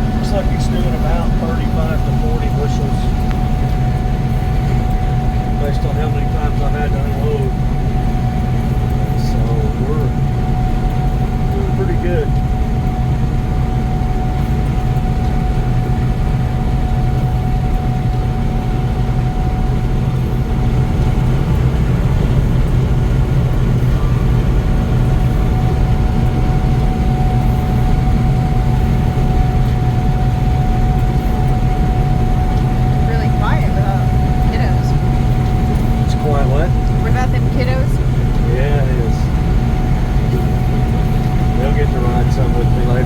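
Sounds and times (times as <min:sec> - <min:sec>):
combine harvester machinery drone: 0:00.0 - 0:43.0
high machinery whine: 0:00.0 - 0:43.0.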